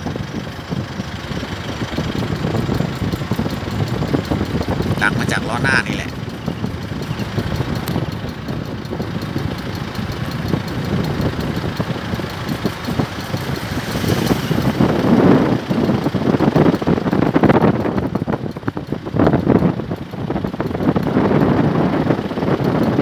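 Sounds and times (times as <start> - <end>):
car engine running: 0.0 - 23.0
knocking and clicking from wheel: 0.1 - 23.0.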